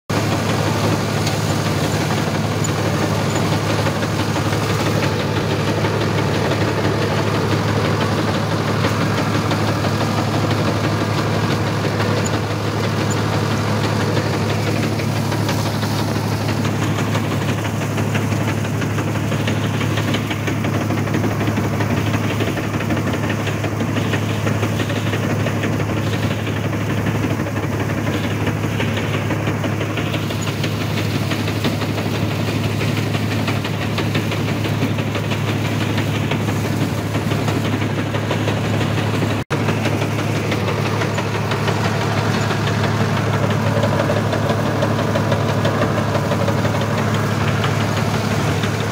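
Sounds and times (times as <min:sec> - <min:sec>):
tractor diesel engine droning: 0:00.1 - 0:48.9.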